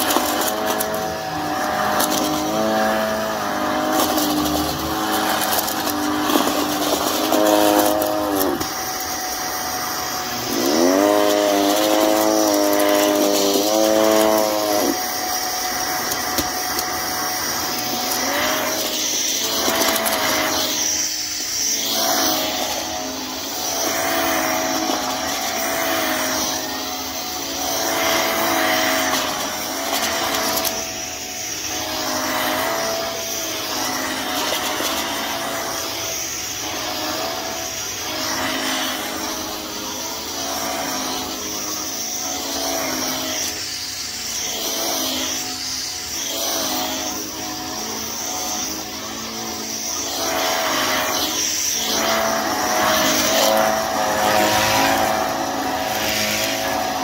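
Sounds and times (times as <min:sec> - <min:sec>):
vacuum cleaner on carpet: 0:00.0 - 0:57.0.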